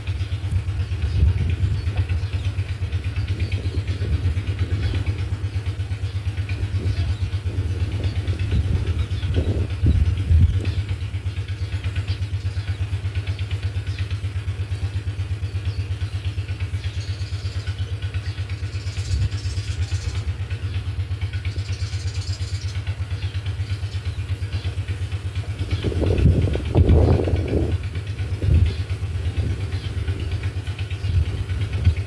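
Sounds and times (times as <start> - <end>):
engine idling with throb: 0.0 - 32.0.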